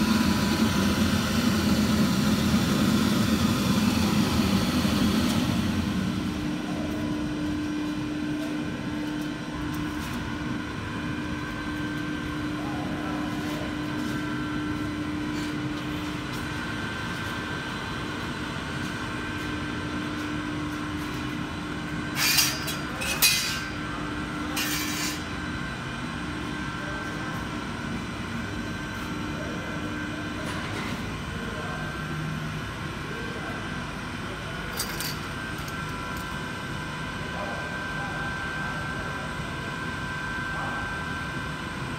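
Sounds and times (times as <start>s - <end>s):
machine mechanical drone: 0.0s - 40.0s.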